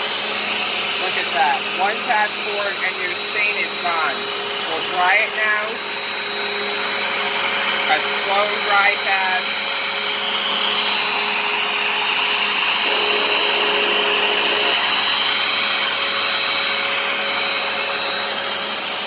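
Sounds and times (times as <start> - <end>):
carpet cleaner suction motor: 0.0 - 19.0.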